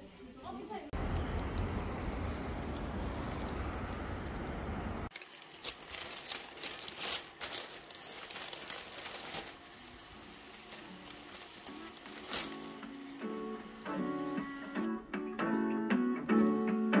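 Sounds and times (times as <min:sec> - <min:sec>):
crinkling and rustling: 0:01.0 - 0:14.9.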